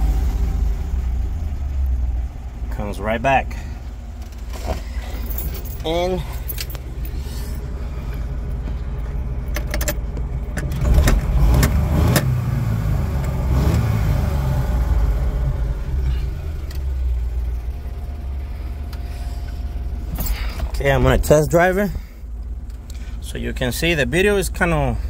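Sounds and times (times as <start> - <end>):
truck engine revving and idling: 0.0 - 25.0.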